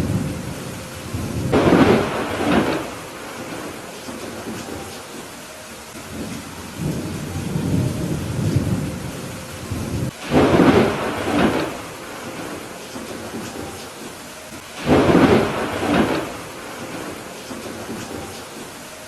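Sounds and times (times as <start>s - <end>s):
thunder rumble and clap: 0.0s - 5.4s, 6.1s - 18.8s
steady rain: 0.0s - 19.0s.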